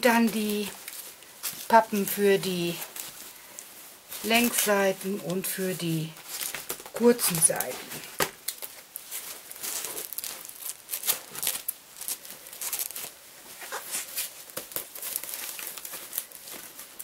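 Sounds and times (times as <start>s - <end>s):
plastic-covered cardboard crinkling: 0.0s - 17.0s.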